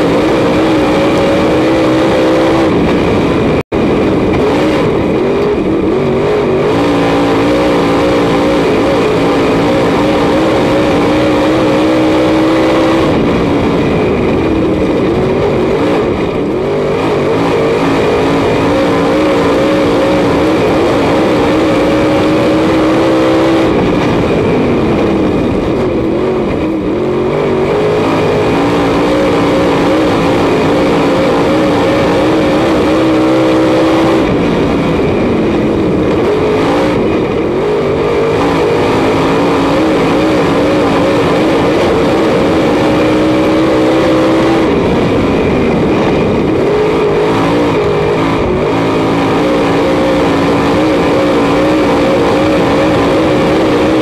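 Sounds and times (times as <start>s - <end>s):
racing engine revving: 0.0s - 54.0s.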